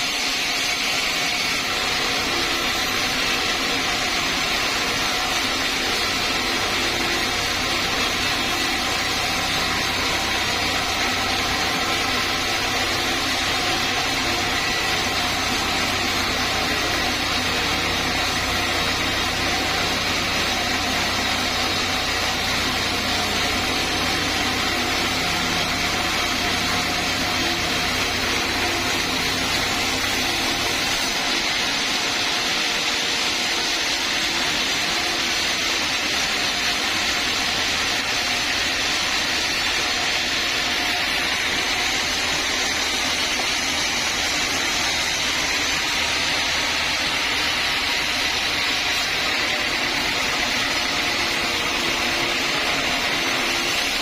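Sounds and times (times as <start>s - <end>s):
sawmill saw whirring: 0.0s - 54.0s.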